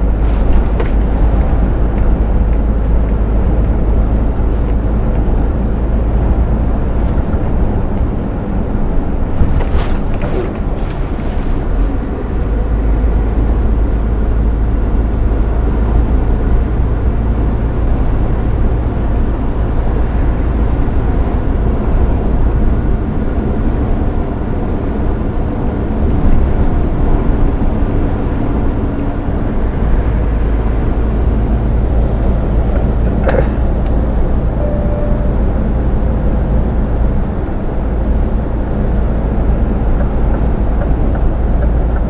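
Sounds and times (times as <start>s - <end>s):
road and tyre noise: 0.0s - 42.0s
truck engine drone: 0.0s - 42.0s.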